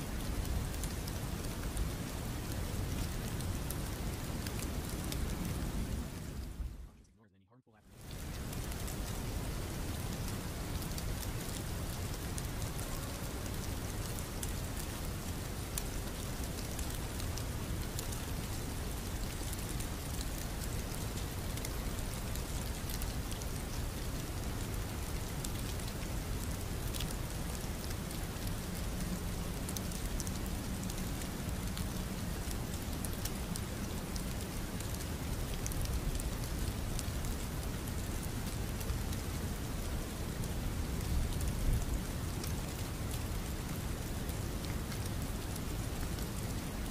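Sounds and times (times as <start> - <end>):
raindrops pattering: 0.0 - 7.0, 7.9 - 46.9.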